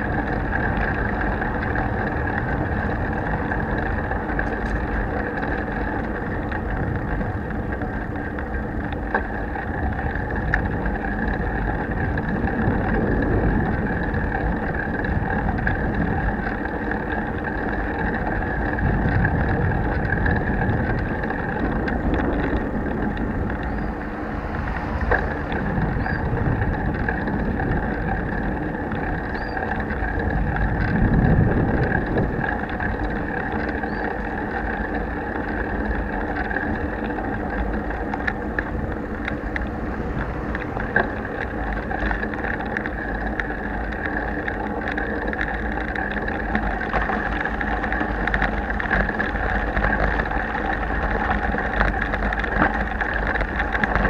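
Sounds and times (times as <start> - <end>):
small clicks and rattles: 0.0 - 54.0
wind and road rumble: 0.0 - 54.0.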